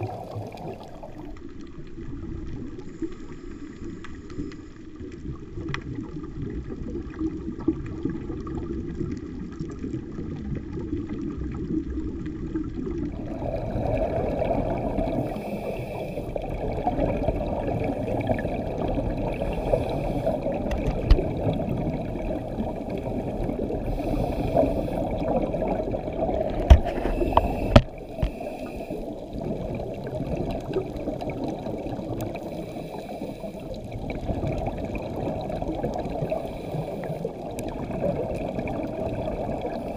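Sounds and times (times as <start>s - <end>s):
underwater bubbles rushing: 0.0s - 39.9s.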